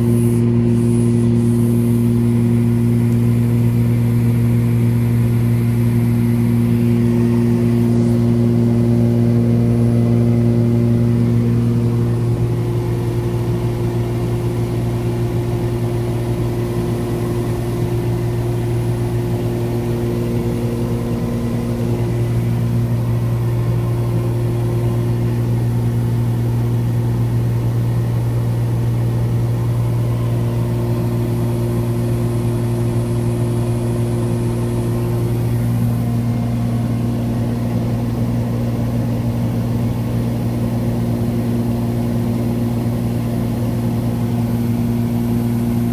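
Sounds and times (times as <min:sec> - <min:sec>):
aircraft cabin engine drone: 0:00.0 - 0:45.9.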